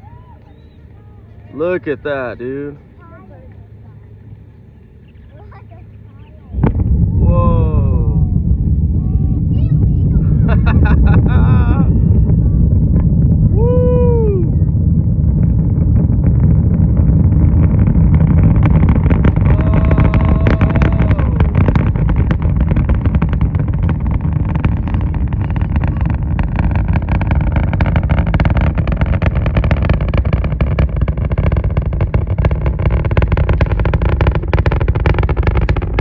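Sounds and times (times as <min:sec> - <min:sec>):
deep rocket engine rumble: 0:00.0 - 0:36.0
dense rocket crackle: 0:00.7 - 0:36.0.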